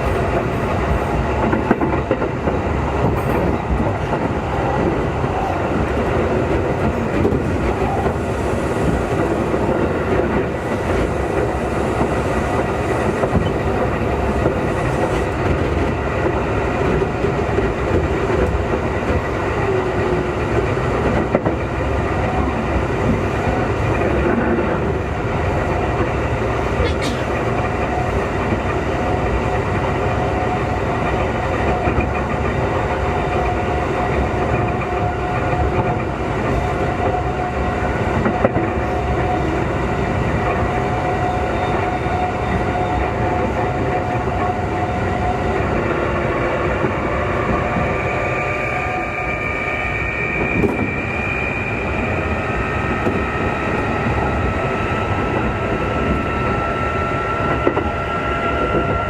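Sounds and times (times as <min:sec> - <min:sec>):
train rail rumble and clickety-clack: 0:00.0 - 0:59.0.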